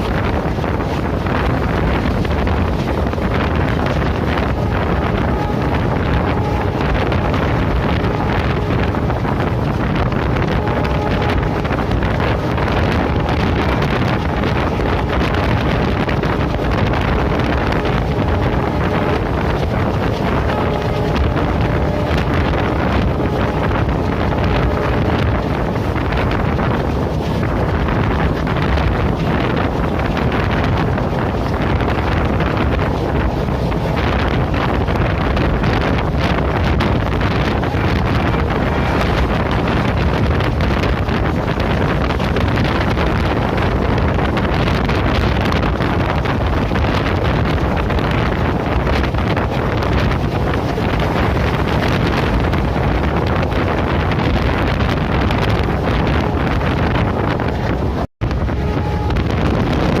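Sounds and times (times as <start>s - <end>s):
train running at speed: 0.0s - 60.0s
wind buffeting microphone: 0.0s - 60.0s.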